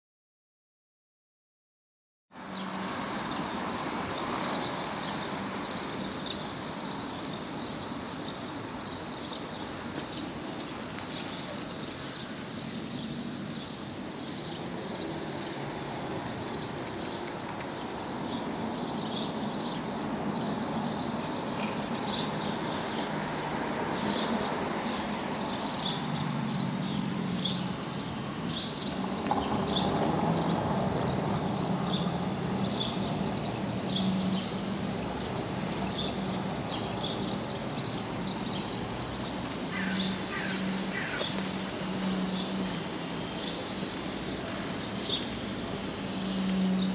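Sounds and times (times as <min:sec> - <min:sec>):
traffic noise: 0:02.3 - 0:46.9
small birds chirping: 0:02.5 - 0:46.9.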